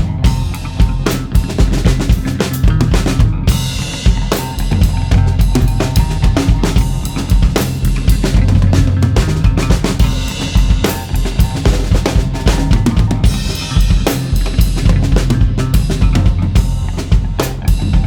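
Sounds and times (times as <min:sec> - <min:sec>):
bass drum and snare hits: 0:00.0 - 0:18.0.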